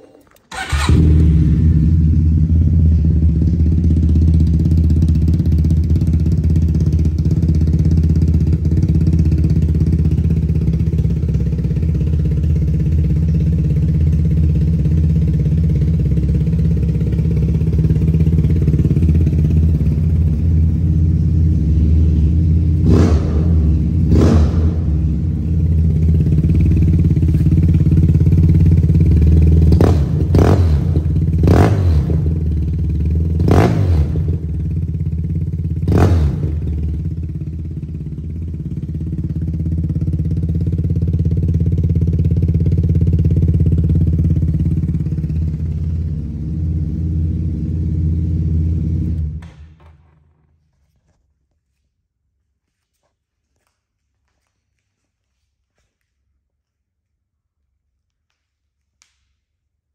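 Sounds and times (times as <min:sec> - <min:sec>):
motorcycle engine idling and revving: 0:00.0 - 0:50.3.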